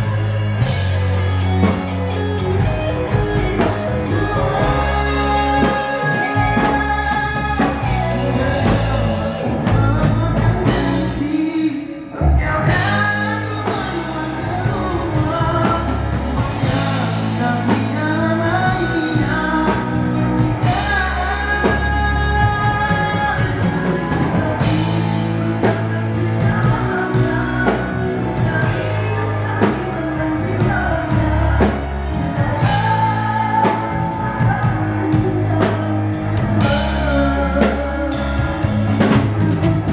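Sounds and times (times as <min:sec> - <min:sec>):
man singing: 0:00.0 - 0:39.9
rock band playing live: 0:00.0 - 0:39.9.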